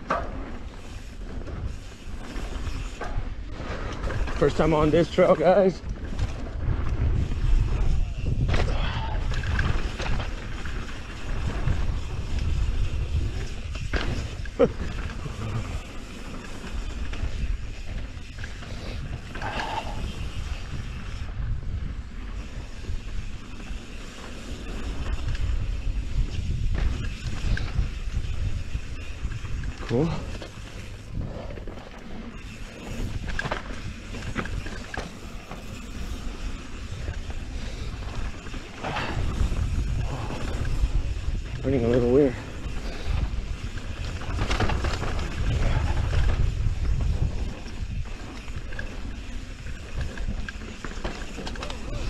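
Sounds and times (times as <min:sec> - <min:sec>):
bike tyres rolling on dirt: 0:00.0 - 0:52.0
wind buffeting microphone: 0:00.7 - 0:52.0.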